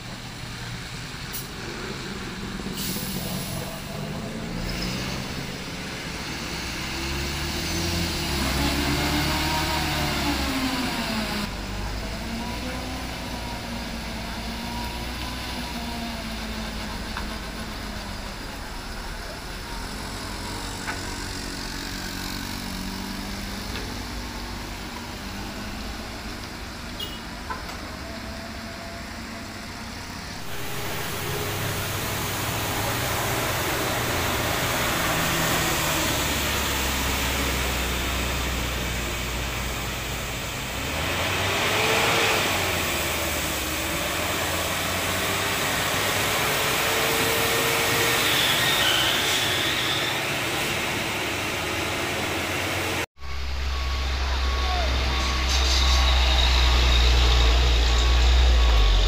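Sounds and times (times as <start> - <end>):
truck engine running: 0.0 - 48.5, 49.6 - 59.0
coach engine turning: 0.0 - 59.0.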